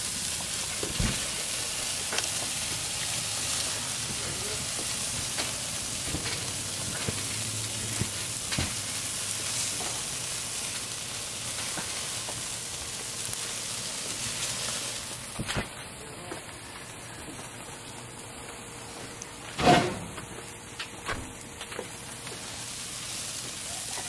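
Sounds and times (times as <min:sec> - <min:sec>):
meat sizzling on a grill: 0:00.0 - 0:24.0
fat popping and crackling: 0:00.3 - 0:16.9, 0:17.6 - 0:24.0.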